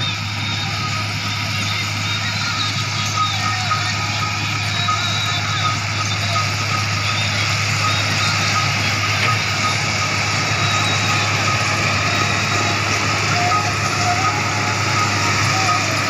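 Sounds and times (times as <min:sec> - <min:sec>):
diesel engine running under load: 0:00.0 - 0:16.0.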